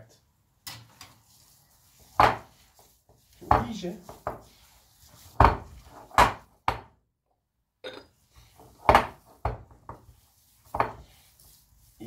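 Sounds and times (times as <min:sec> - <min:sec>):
hands kneading paste in bowl: 0:00.8 - 0:06.9, 0:08.2 - 0:12.0.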